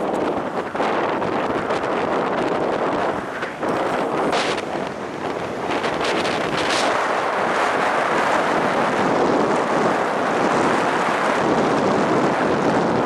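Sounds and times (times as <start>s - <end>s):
breaking surf: 0.0s - 13.0s
wind on microphone: 0.0s - 13.0s.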